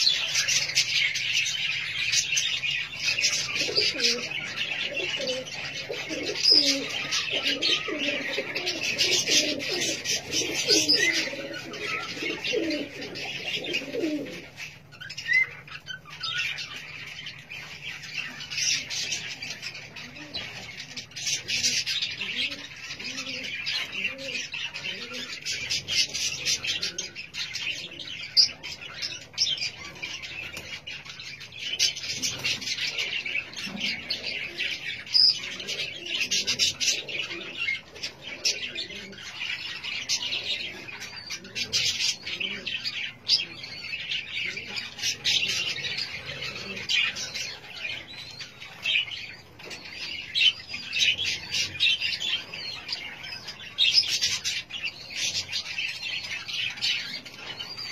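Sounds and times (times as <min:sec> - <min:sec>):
caged birds chirping: 0:00.0 - 0:57.9.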